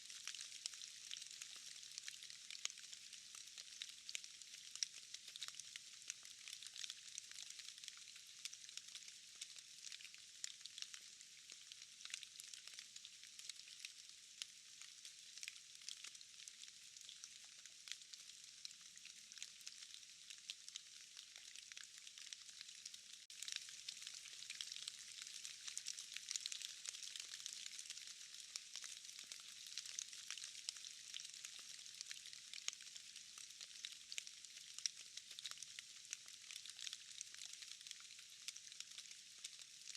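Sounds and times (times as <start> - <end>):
rain dripping in forest: 0.0 - 39.9.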